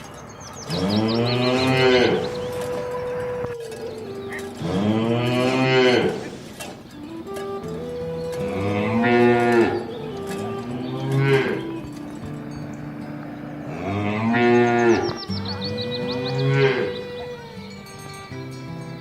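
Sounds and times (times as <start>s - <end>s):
cattle mooing: 0.6s - 17.6s.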